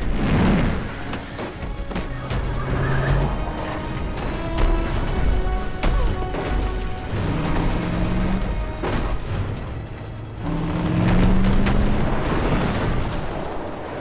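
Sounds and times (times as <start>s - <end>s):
dramatic film score: 0.0s - 14.0s.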